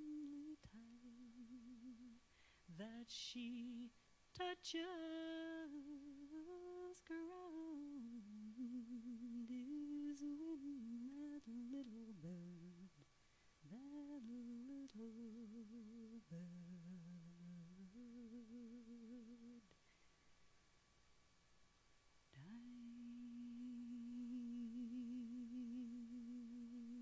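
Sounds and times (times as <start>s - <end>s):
person humming a melody: 0.0s - 13.0s, 13.7s - 19.7s, 22.4s - 27.0s.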